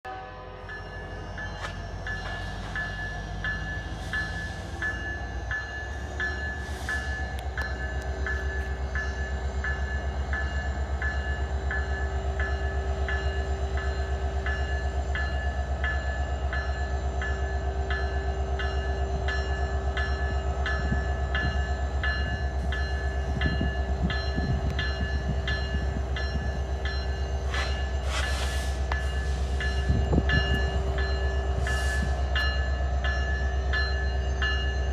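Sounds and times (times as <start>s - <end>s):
diesel locomotive rumble: 0.0s - 34.9s.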